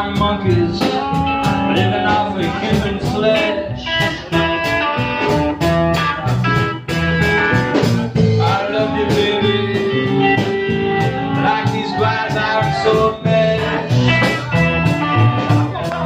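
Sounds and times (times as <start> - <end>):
electric guitars bending notes: 0.0 - 16.0
live blues band playing: 0.0 - 16.0.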